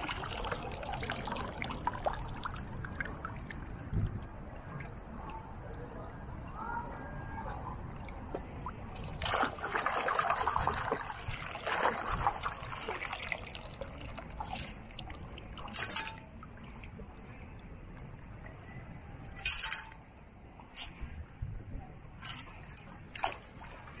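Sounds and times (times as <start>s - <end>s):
water splashing and trickling: 0.0s - 6.6s, 8.0s - 24.0s.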